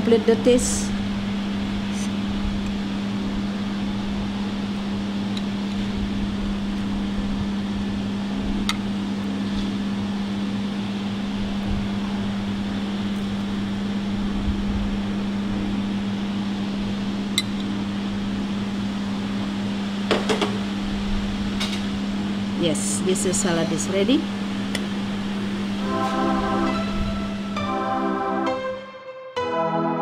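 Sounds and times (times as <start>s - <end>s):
ventilation fan humming: 0.0s - 28.8s.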